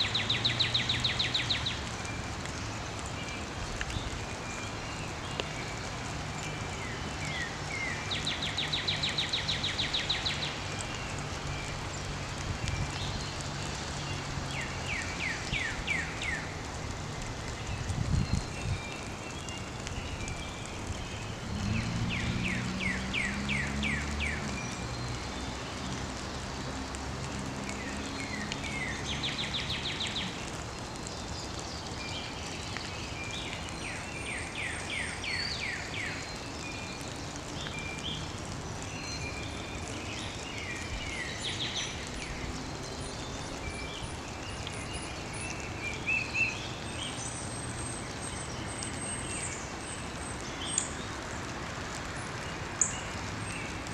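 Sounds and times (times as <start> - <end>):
songbirds singing: 0.0 - 53.9
steady outdoor hiss: 0.0 - 53.9.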